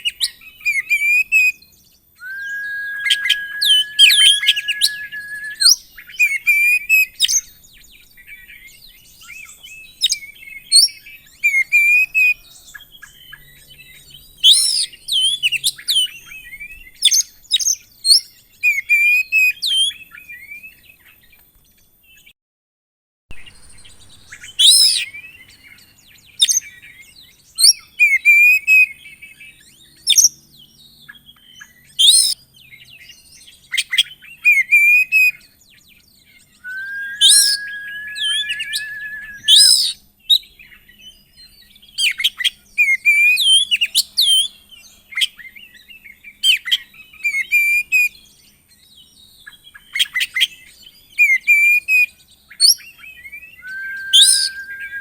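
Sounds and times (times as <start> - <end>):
bird singing whistled song: 0.0 - 21.0, 23.3 - 44.5, 45.2 - 55.0.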